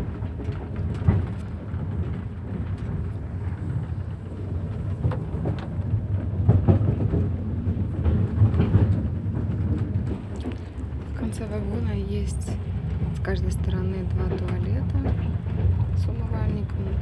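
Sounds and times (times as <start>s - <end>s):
knocks and rattles: 0.0s - 17.0s
train low rumble: 0.0s - 17.0s.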